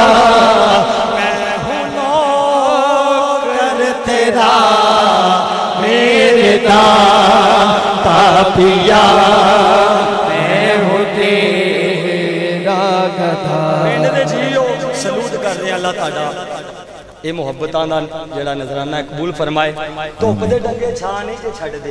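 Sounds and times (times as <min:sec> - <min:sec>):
man chanting: 0:00.0 - 0:21.9.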